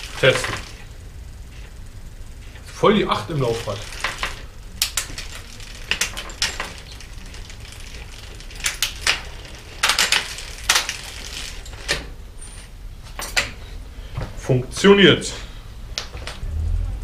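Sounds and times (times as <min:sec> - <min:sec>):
bicycle gear hub clicks and clunks: 0:00.0 - 0:13.6.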